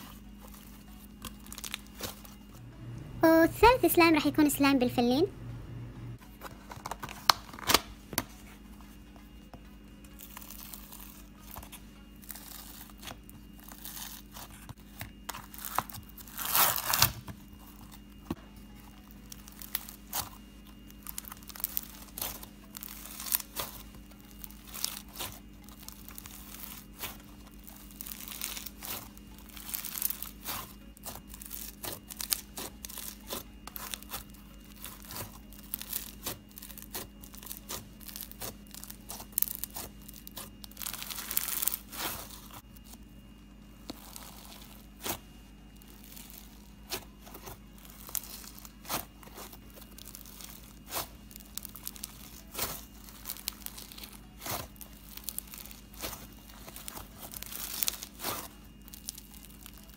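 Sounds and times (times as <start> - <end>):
foam bead slime crackling: 0.0 - 2.5, 10.1 - 18.1, 18.8 - 43.0, 43.6 - 59.9.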